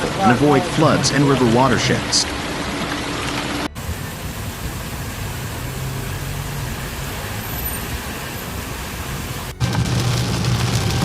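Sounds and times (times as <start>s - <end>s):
falling rain: 0.0s - 11.0s
low engine hum: 0.0s - 11.0s
tyres hissing on wet road: 0.0s - 11.0s.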